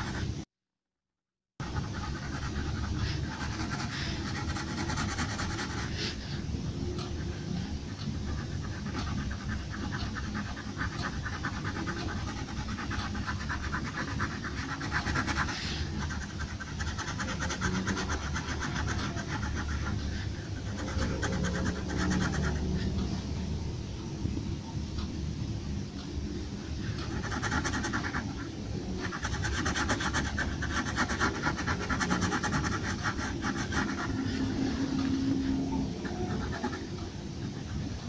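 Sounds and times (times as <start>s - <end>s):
pencil scratching on paper: 0.0s - 0.3s, 1.6s - 23.5s, 26.6s - 38.0s.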